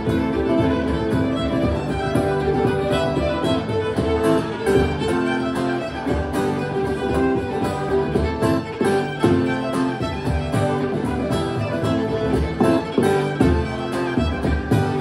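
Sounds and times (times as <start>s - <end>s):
fiddles playing a reel: 0.0s - 15.0s
strummed acoustic guitar: 0.0s - 15.0s.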